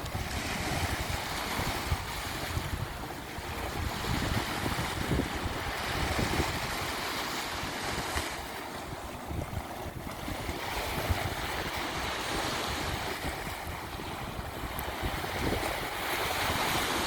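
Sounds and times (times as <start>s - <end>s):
sea waves on beach: 0.0s - 17.0s.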